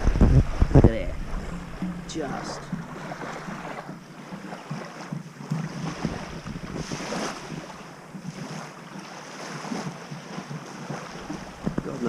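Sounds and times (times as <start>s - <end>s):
wind buffeting microphone: 0.0s - 8.5s, 9.8s - 12.0s
small waves washing on beach: 0.0s - 12.0s.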